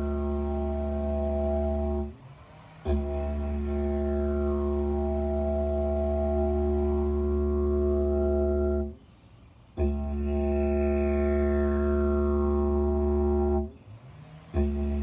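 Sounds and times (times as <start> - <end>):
didgeridoo drone: 0.0 - 9.0, 9.8 - 13.8, 14.4 - 15.0.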